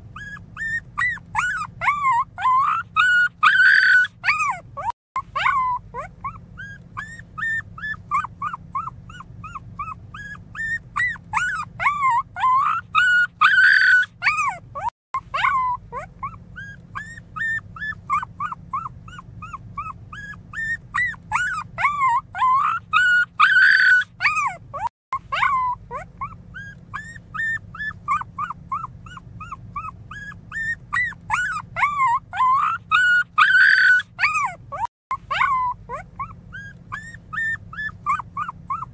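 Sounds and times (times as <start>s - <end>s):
puppy whimpering squeals: 0.0s - 38.9s.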